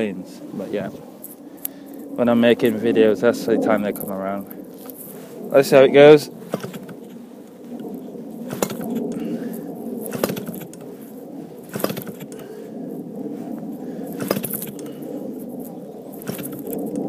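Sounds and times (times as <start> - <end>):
low background drone: 0.0 - 17.0
propeller clicks: 1.1 - 17.0.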